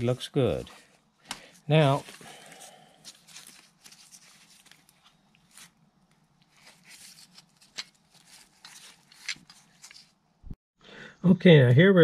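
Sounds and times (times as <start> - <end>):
gloved hands handling metal parts: 0.6 - 10.3.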